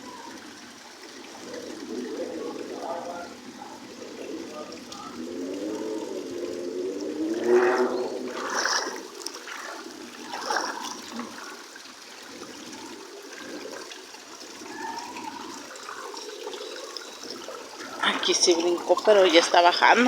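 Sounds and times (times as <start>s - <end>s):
floodwater flowing: 0.0s - 20.0s.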